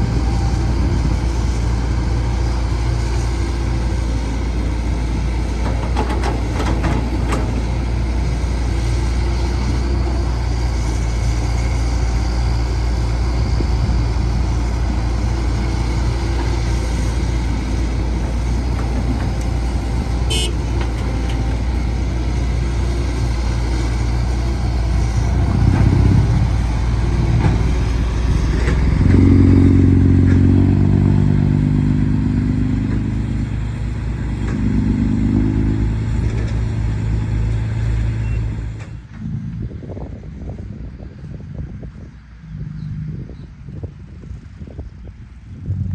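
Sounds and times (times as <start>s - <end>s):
excavator diesel engine running: 0.0s - 44.6s.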